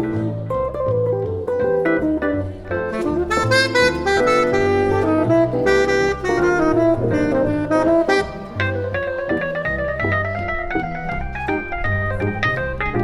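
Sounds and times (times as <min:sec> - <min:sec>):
guitar accompaniment: 0:00.0 - 0:13.0
piano accompaniment: 0:00.0 - 0:13.0
tenor saxophone jazz melody: 0:00.0 - 0:13.0.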